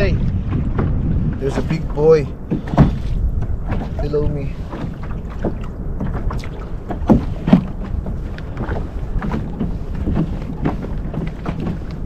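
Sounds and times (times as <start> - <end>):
waves slapping against kayak: 0.0 - 12.0
wind rumble on microphone: 0.0 - 12.0.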